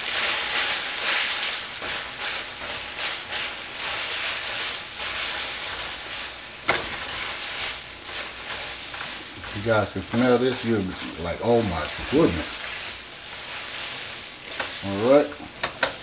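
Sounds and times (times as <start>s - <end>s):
pasta sizzling in a skillet: 0.0s - 16.0s
tongs tossing pasta: 0.0s - 16.0s.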